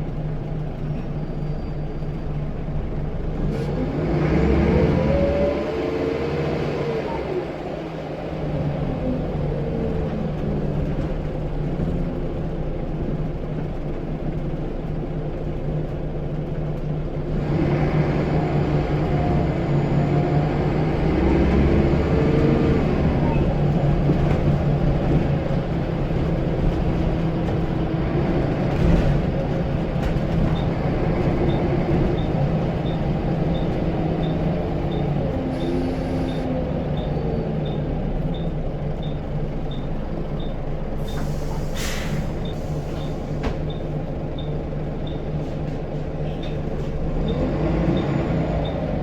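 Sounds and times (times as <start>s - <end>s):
bus diesel engine running: 0.0s - 49.0s.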